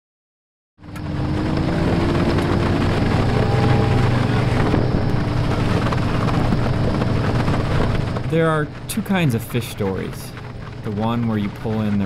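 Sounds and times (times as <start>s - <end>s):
boat engine running: 0.8s - 12.0s.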